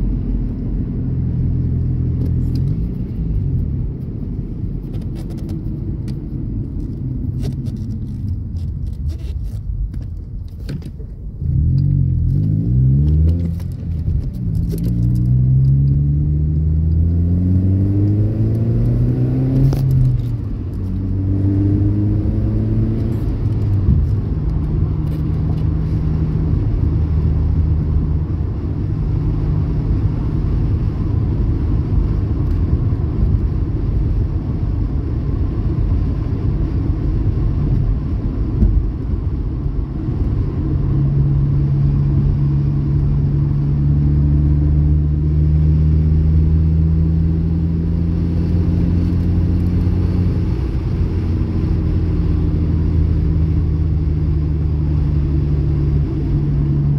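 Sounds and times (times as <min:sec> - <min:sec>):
car engine accelerating: 0:11.2 - 0:56.9.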